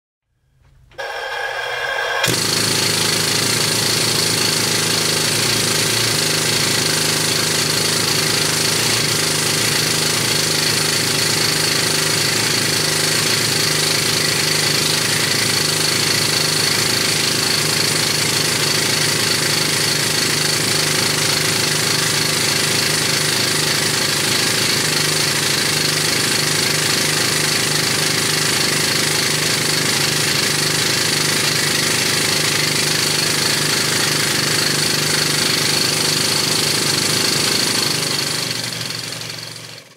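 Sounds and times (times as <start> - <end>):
hammer drill hammering rock: 1.0 - 39.9.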